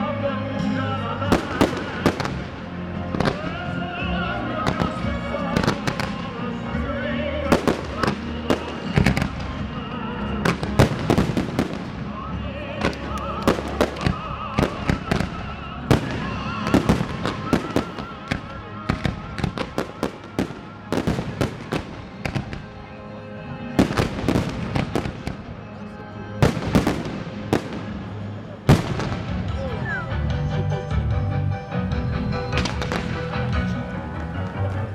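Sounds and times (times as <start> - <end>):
music soundtrack: 0.0 - 34.9.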